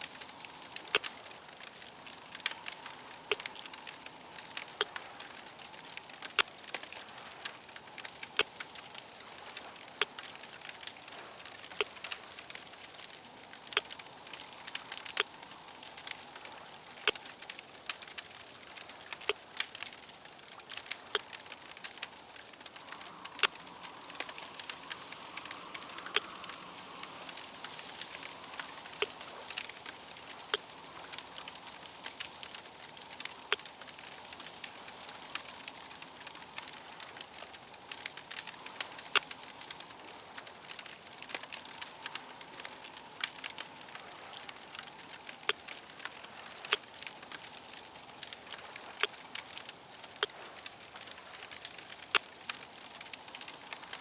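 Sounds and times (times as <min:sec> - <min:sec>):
fire crackling and popping: 0:00.0 - 0:54.0
steady hiss: 0:00.0 - 0:54.0.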